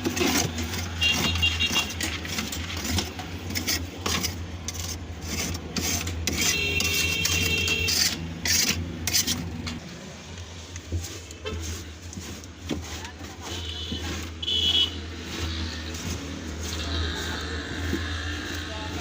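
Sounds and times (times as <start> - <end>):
rasping scraping strokes: 0.0 - 19.0.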